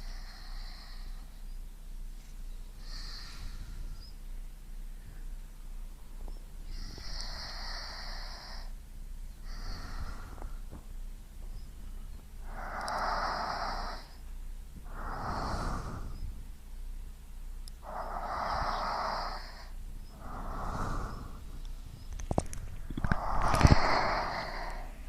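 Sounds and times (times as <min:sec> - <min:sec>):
person breathing slowly: 0:00.0 - 0:01.6, 0:02.7 - 0:08.8, 0:09.4 - 0:10.9, 0:11.5 - 0:16.6, 0:17.8 - 0:25.0.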